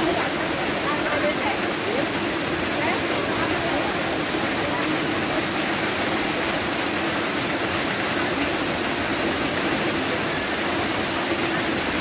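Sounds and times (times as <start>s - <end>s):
waterfall splashing into pool: 0.0s - 12.0s.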